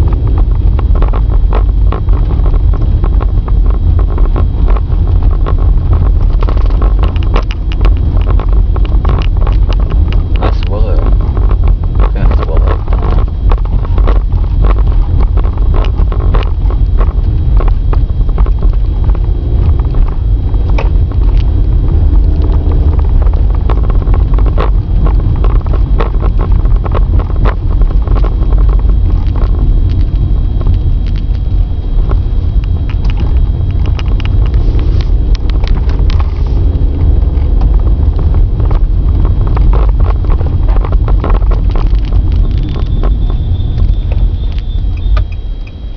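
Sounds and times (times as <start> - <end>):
road and engine rumble: 0.0 - 45.9.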